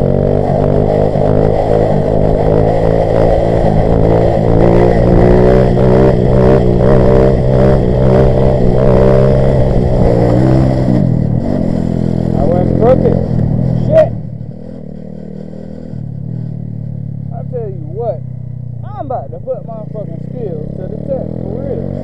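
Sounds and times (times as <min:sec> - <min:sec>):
low wind rumble: 0:00.0 - 0:22.0.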